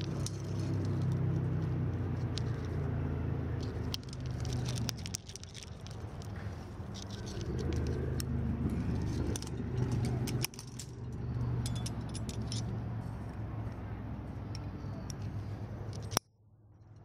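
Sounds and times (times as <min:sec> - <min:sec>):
metal climbing gear clinking: 0:00.0 - 0:02.8, 0:03.6 - 0:12.8, 0:14.5 - 0:16.2.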